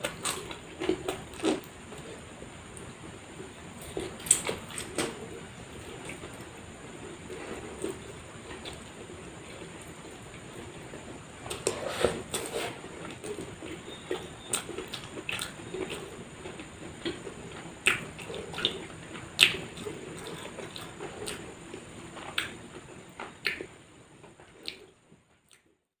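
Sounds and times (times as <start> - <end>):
chewing and wet mouth sounds: 0.0 - 11.8, 13.0 - 23.8, 24.4 - 25.8.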